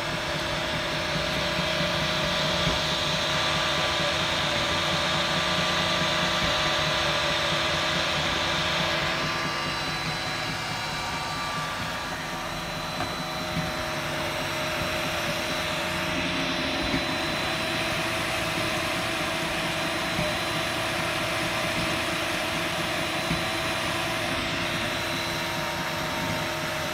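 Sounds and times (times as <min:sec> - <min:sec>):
printer fans and motors whirring: 0:00.0 - 0:26.9.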